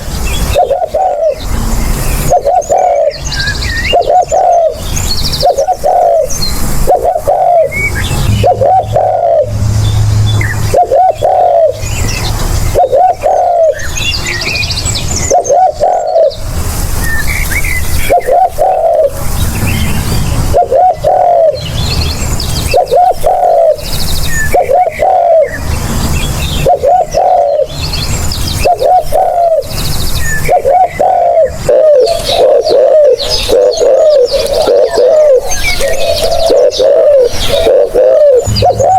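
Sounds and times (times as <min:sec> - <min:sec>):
dove cooing: 0:00.0 - 0:25.7, 0:26.4 - 0:38.9.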